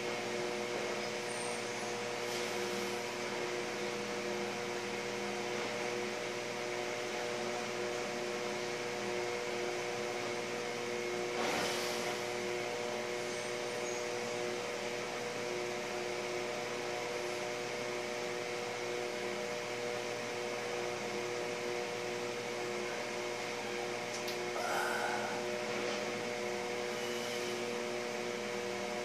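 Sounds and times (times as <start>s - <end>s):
steady hum with tones: 0.0s - 29.0s.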